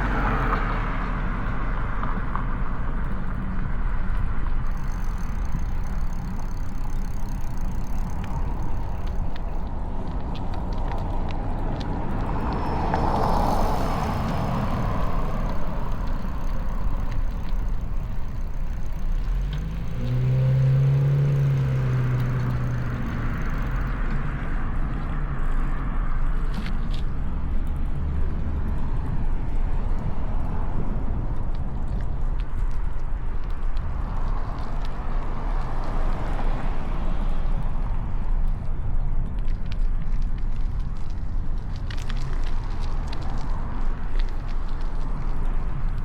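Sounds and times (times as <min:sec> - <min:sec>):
cars passing: 0:00.0 - 0:46.0
passing vehicle engine hum: 0:00.0 - 0:46.0
street traffic rumble: 0:00.0 - 0:46.0.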